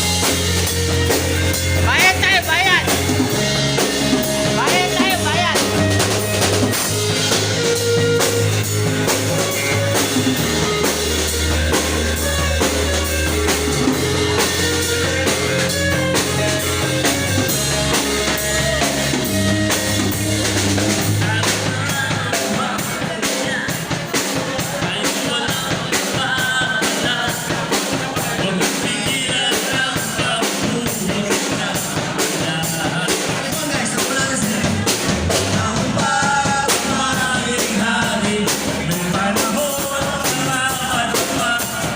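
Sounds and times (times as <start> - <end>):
bass: 0.0 - 41.9
drum kit: 0.0 - 41.9
person singing: 0.0 - 41.9.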